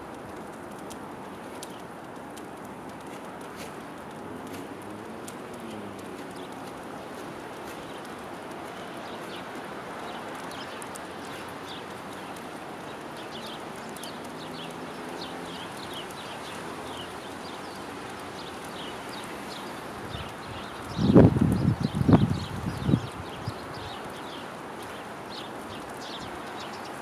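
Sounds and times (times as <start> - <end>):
steady outdoor rush: 0.0 - 27.0
songbirds chirping: 0.4 - 27.0.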